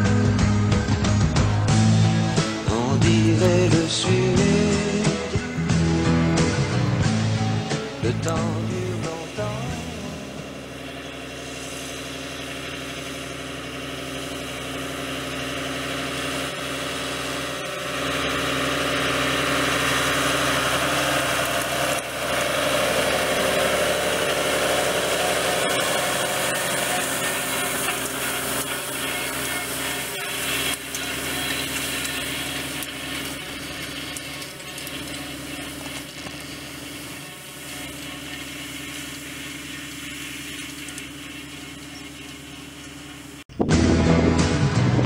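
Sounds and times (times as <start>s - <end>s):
tractor diesel engine running: 0.0s - 45.0s
hay rake turning: 1.5s - 43.5s.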